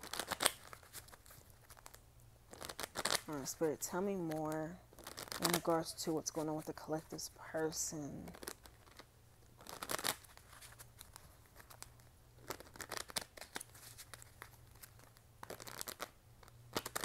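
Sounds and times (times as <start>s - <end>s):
cards shuffling: 0.0s - 7.2s, 8.2s - 17.0s.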